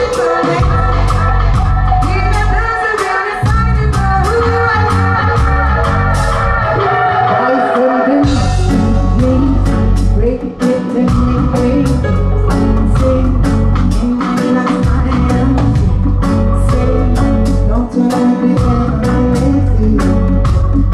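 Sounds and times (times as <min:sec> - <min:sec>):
live reggae band: 0:00.0 - 0:20.9
woman singing: 0:00.0 - 0:20.9.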